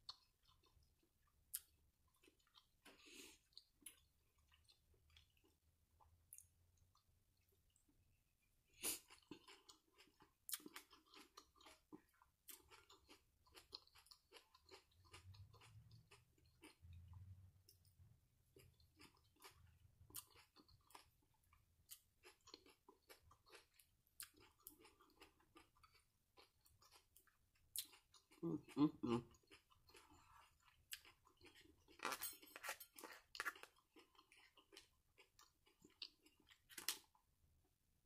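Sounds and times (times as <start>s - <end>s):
person chewing: 0.0s - 8.2s, 8.8s - 37.3s.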